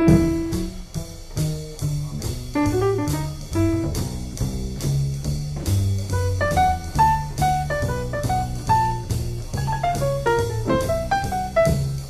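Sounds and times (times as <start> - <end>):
bass line: 0.0 - 12.0
steady drum beat: 0.0 - 12.0.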